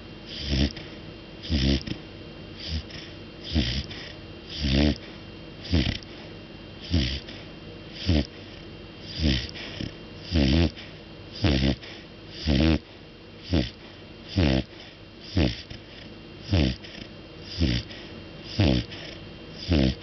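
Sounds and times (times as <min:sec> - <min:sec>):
dog snoring: 0:00.2 - 0:02.0, 0:02.6 - 0:20.0.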